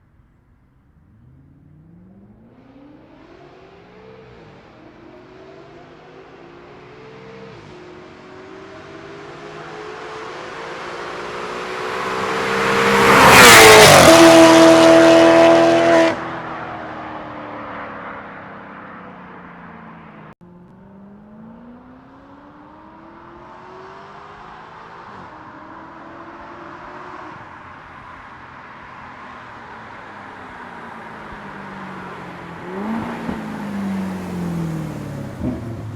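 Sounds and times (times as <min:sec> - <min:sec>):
car engine accelerating past: 0:01.1 - 0:28.3, 0:29.4 - 0:35.9.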